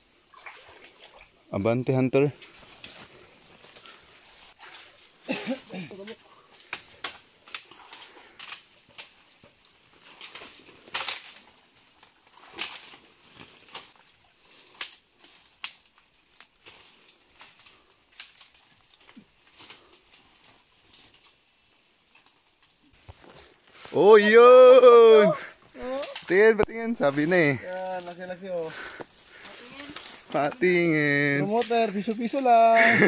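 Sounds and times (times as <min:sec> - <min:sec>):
footsteps rustling through undergrowth: 0:02.3 - 0:24.8, 0:25.4 - 0:33.0.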